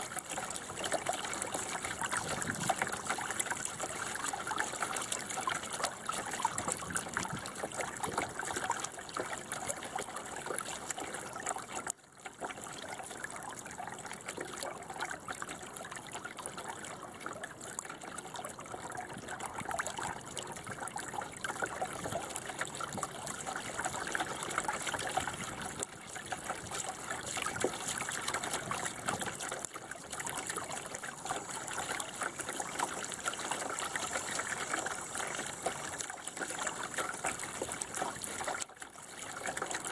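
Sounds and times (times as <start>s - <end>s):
water splashing against hull: 0.0s - 39.9s.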